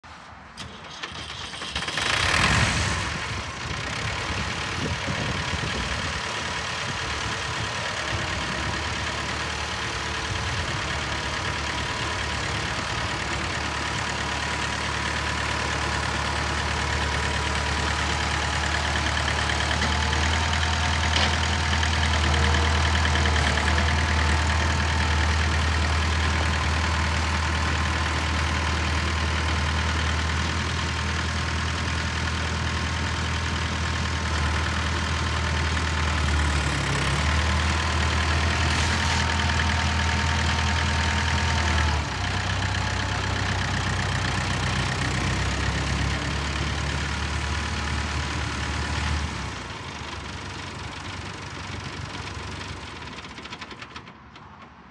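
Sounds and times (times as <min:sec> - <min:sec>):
tractor engine idling: 0:00.6 - 0:54.9.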